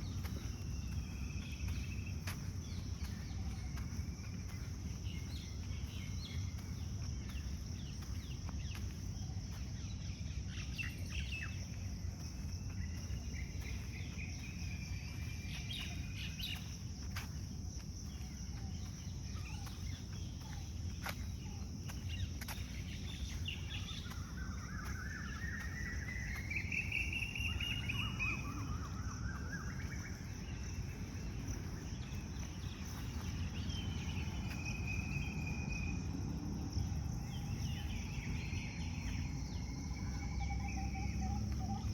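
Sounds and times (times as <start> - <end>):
birds calling: 0.0 - 35.5
insects trilling: 0.0 - 41.9.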